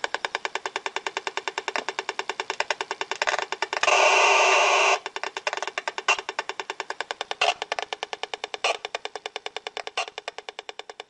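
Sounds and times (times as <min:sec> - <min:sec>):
fast even clicking from detector: 0:00.0 - 0:11.0
loud continuous buzz: 0:00.0 - 0:11.0.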